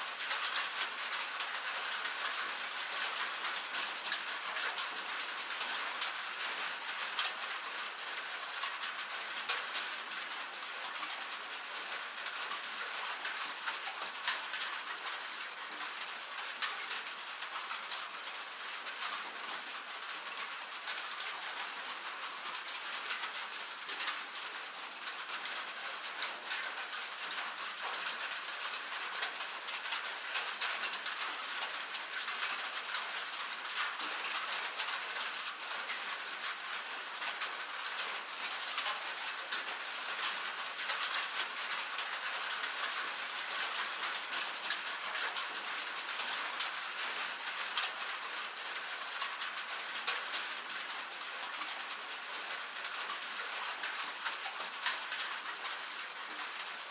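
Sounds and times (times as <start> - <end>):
rain on a metal roof: 0.0 - 56.9.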